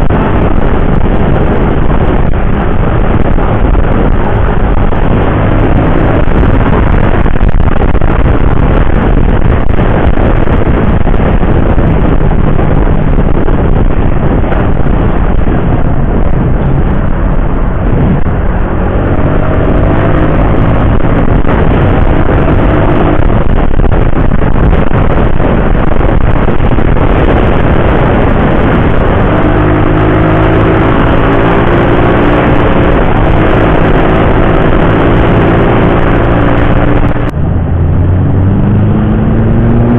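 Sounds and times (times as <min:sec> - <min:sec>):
motorcycle engine hum: 0:00.0 - 0:39.9
wind and road noise: 0:00.0 - 0:39.9.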